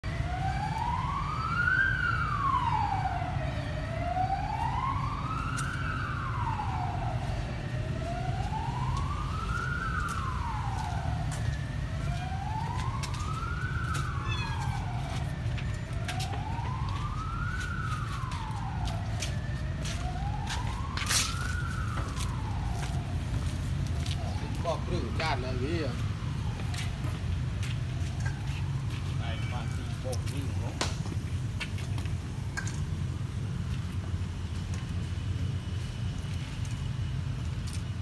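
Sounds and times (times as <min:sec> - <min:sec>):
siren wailing: 0:00.0 - 0:30.9.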